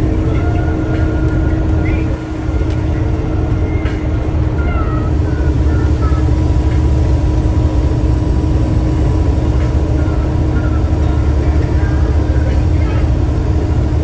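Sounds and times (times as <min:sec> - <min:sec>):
road noise: 0:00.0 - 0:14.0
truck engine rumble: 0:00.0 - 0:14.0.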